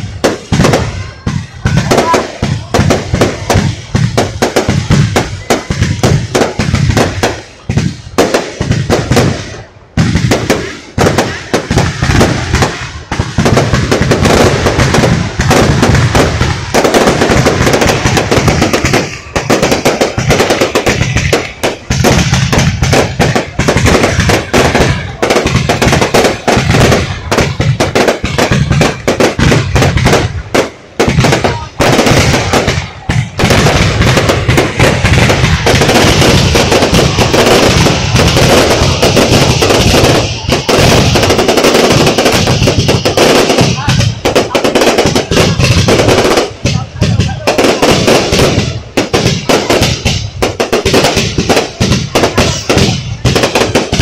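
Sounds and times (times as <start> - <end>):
firework bangs and crackling: 0.0 - 54.0.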